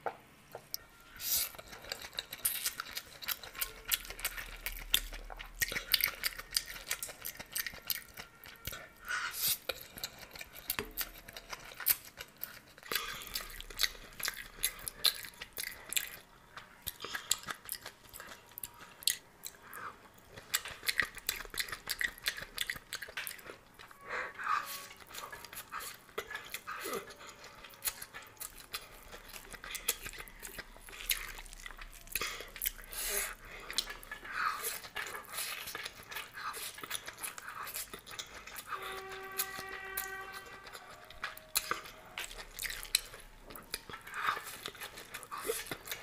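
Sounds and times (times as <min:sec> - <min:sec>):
person chewing noodles: 0:00.6 - 0:46.0.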